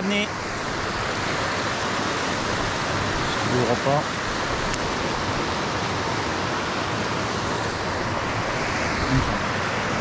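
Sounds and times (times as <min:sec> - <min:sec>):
river rushing over waterfall: 0:00.0 - 0:10.0.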